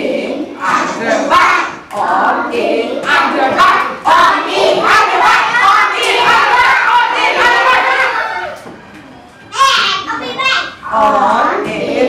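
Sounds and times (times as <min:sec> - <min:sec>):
children singing together: 0:00.0 - 0:08.6, 0:10.8 - 0:12.0.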